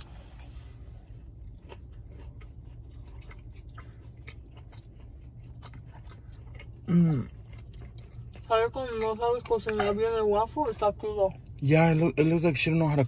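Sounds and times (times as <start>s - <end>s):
person chewing: 0.0s - 12.0s
steady low hum: 0.0s - 13.0s.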